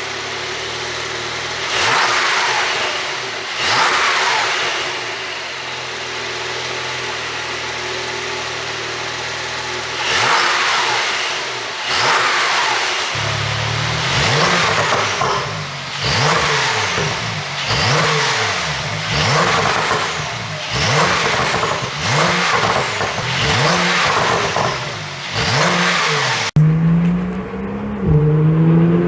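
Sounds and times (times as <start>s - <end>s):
sports car engine revving: 0.0s - 29.0s.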